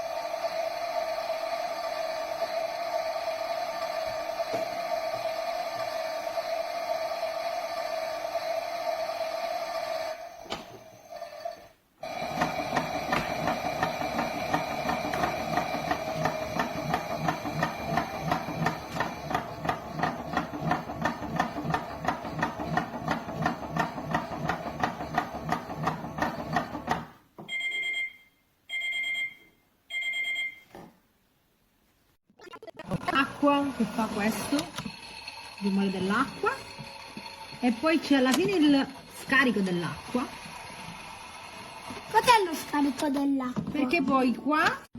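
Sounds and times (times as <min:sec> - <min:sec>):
toy washing machine pulsing hum: 0:00.0 - 0:27.1, 0:32.4 - 0:44.7.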